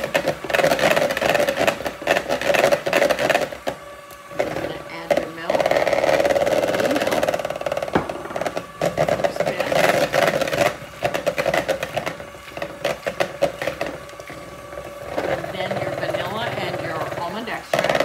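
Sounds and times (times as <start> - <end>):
electric hand mixer whirring: 0.0 - 18.0.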